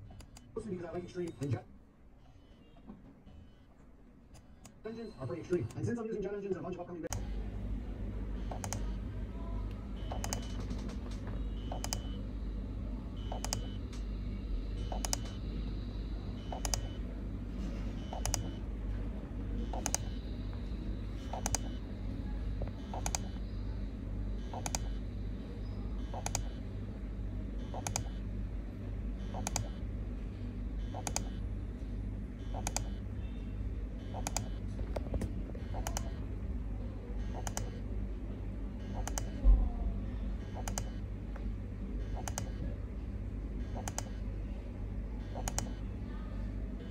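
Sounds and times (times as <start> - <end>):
low hum: 7.1 - 46.9.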